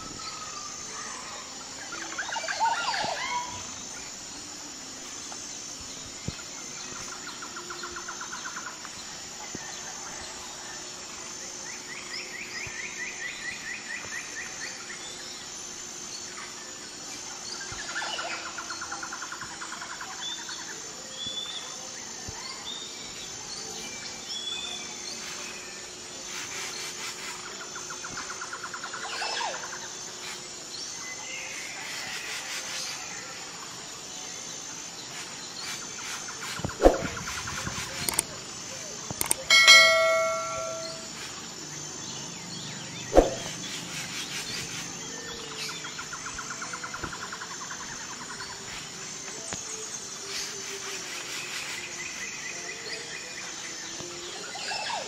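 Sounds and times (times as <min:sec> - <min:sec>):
high-pitched pulsing insect chirping: 0:00.0 - 0:55.0
songbirds singing trills: 0:05.5 - 0:55.0.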